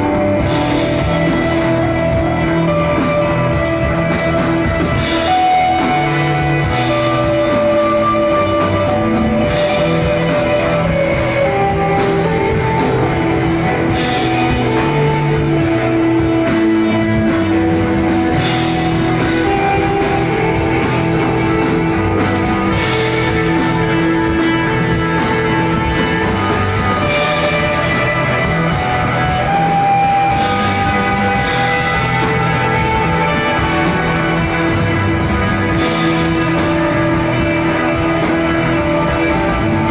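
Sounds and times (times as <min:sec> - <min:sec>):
bass guitar: 0:00.0 - 0:39.9
drum kit: 0:00.0 - 0:39.9
electric guitar sustained notes: 0:00.0 - 0:39.9.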